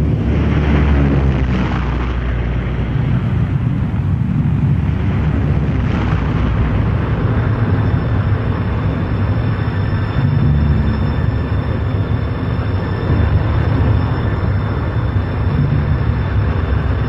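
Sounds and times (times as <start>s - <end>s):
bomber engines droning: 0.0s - 17.0s.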